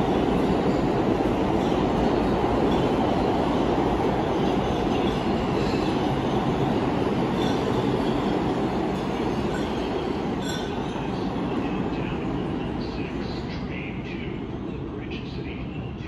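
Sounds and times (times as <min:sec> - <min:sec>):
subway train rumbling on rails: 0:00.0 - 0:16.0.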